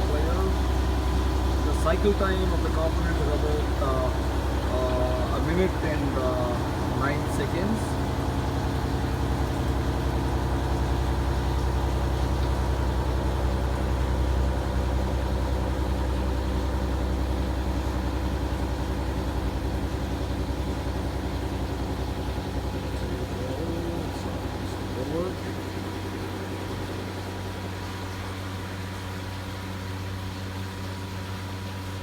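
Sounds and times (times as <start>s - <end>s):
machine hum with constant tones: 0.0s - 32.0s.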